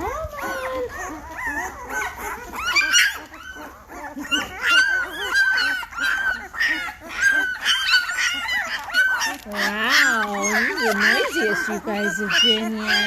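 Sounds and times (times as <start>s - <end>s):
puppies squealing and whining: 0.0s - 13.0s.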